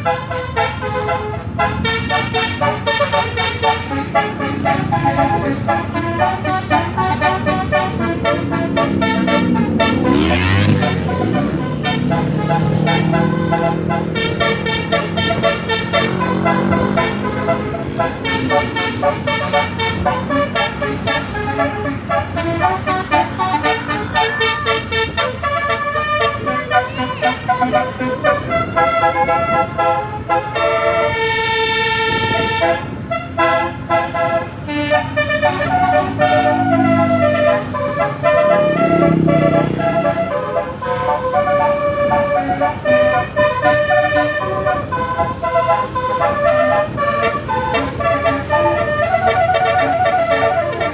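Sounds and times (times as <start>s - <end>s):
bus engine rumble: 0.0s - 50.9s
melodic bus horn: 0.0s - 50.9s.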